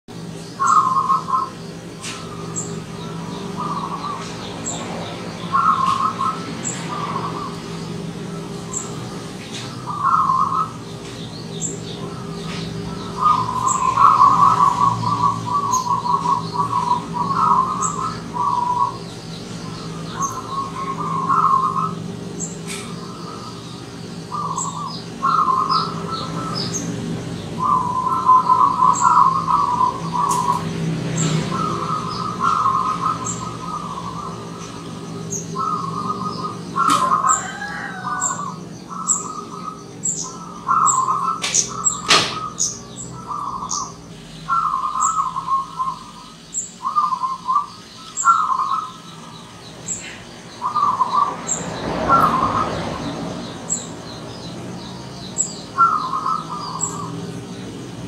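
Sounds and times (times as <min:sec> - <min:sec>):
dove cooing: 0:00.6 - 0:50.0, 0:50.6 - 0:53.8, 0:55.0 - 0:57.3.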